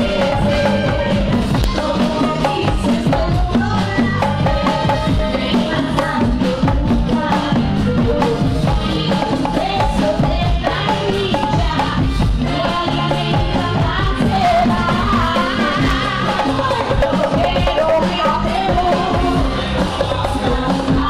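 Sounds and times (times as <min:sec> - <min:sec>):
drum and percussion beat: 0:00.0 - 0:21.0
latin pop music: 0:00.0 - 0:21.0.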